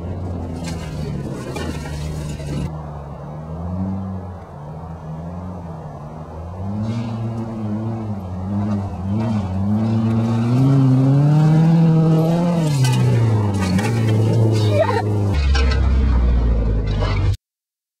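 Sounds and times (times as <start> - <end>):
car engine revving: 0.0 - 17.4
engine crackles: 0.0 - 17.4.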